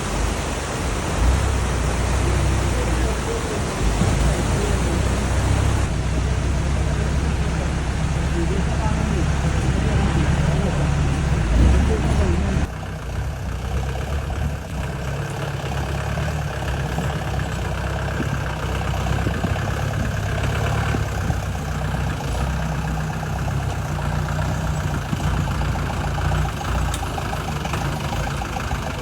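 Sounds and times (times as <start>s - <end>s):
diesel engine low rumble: 0.0s - 29.0s.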